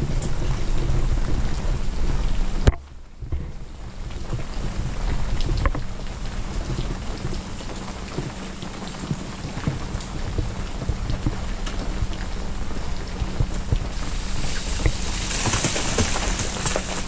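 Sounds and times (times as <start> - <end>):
freezing rain falling: 0.0 - 17.0
drips and small ticks: 0.2 - 17.0.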